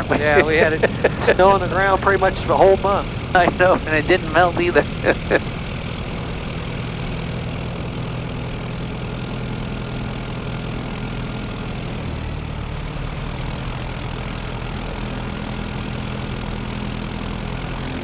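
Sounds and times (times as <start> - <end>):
aircraft engine idling: 0.0 - 18.0.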